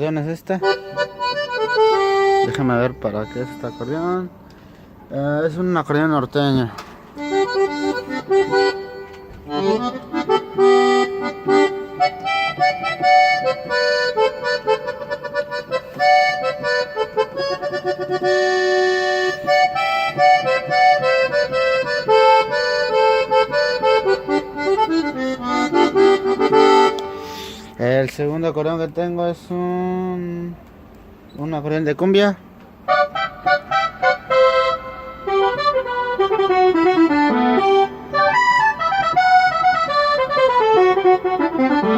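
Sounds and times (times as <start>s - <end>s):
accordion melody over held chords: 0.0s - 31.2s, 32.7s - 41.9s.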